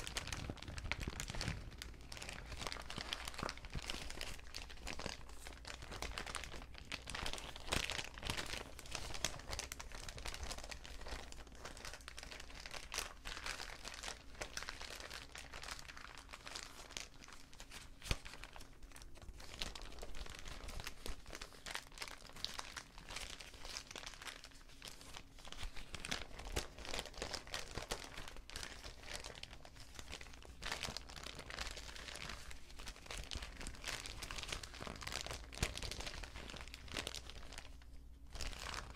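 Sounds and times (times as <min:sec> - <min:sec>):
paper bags crinkling: 0:00.0 - 0:38.9.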